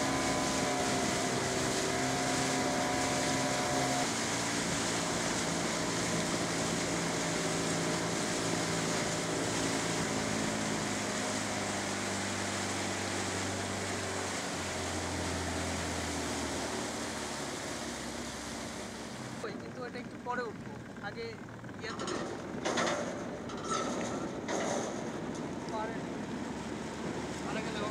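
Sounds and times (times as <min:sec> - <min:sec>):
boat engine running: 0:00.0 - 0:27.9
water and wind noise: 0:00.0 - 0:27.9.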